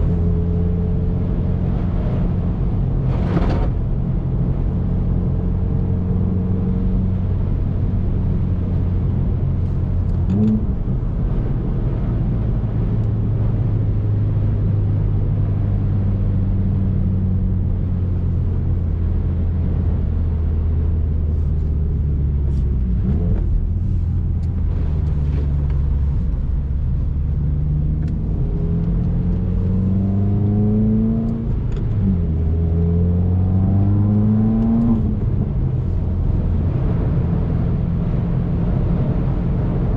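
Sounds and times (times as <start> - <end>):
car engine accelerating and shifting: 0.0 - 39.9.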